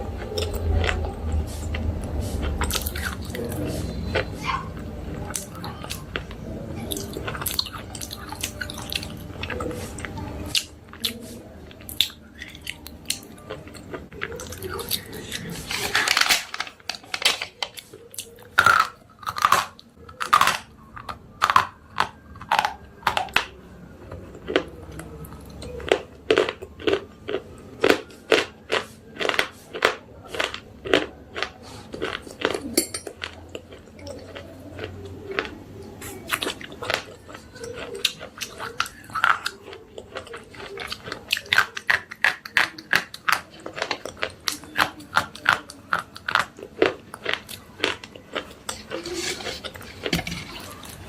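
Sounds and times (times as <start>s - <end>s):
crunchy chewing: 0.0s - 51.0s.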